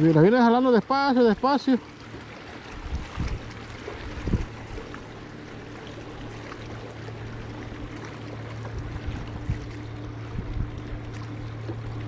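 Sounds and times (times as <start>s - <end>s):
boat engine humming: 0.0s - 12.0s
water lapping: 0.0s - 12.0s.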